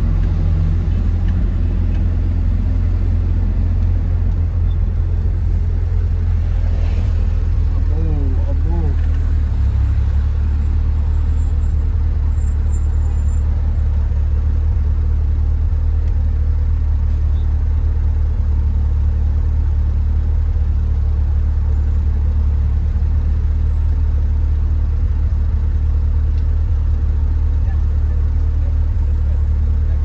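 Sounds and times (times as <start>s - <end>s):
car exhaust drone: 0.0s - 30.0s
road noise: 0.0s - 30.0s.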